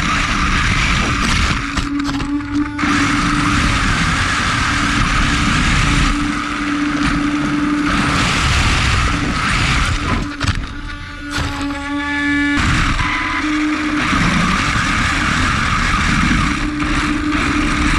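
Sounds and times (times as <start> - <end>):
wind rushing on microphone: 0.0 - 11.8, 12.4 - 17.9
electric motor whine: 0.0 - 17.9.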